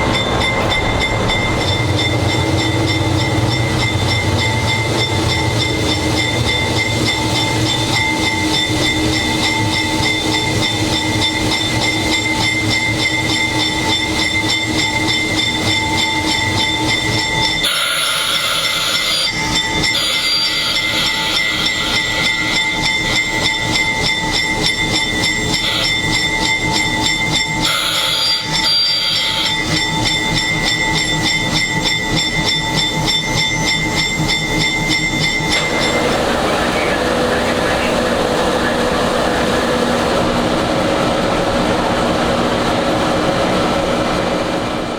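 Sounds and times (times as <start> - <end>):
diesel locomotive engine running: 0.0 - 44.9.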